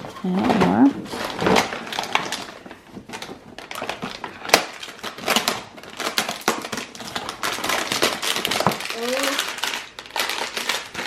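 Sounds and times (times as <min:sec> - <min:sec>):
toy packaging clicking and crackling: 0:01.1 - 0:11.0.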